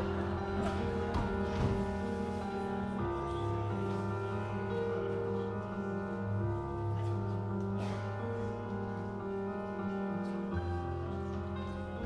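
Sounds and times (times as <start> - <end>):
slow instrumental music held chords: 0.0 - 12.0.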